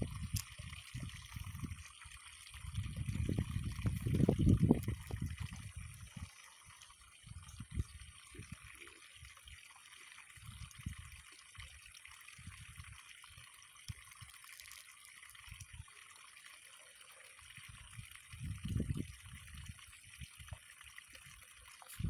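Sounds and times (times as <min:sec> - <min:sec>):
water trickling: 0:00.0 - 0:22.0.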